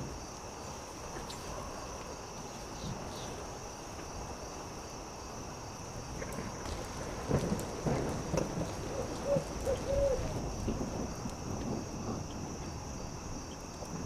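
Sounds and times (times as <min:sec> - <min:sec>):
crackling campfire: 0:00.0 - 0:14.0
crickets trilling: 0:00.0 - 0:14.0.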